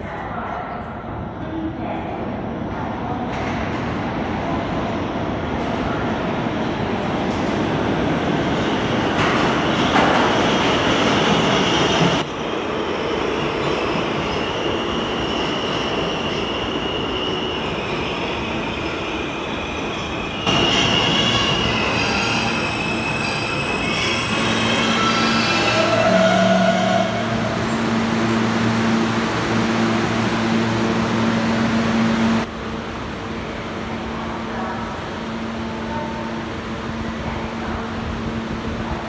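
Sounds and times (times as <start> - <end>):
subway train wheels rumbling: 0.0 - 39.0.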